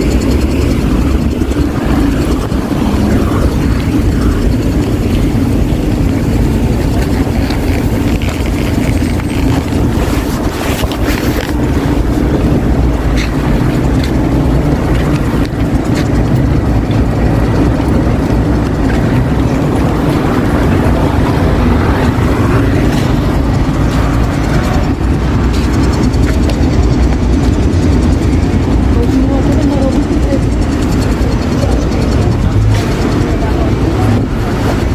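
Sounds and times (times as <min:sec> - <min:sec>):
city traffic rumble: 0:00.0 - 0:34.9.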